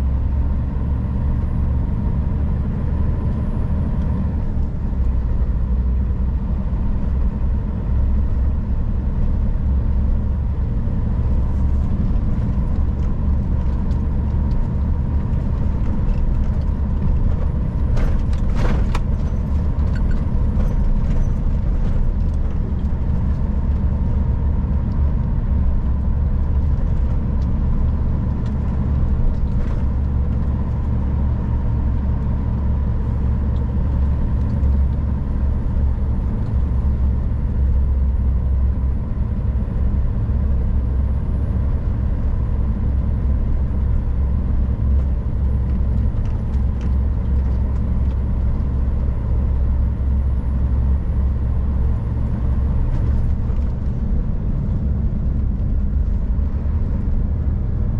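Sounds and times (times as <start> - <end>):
truck diesel engine running: 0.0 - 57.9.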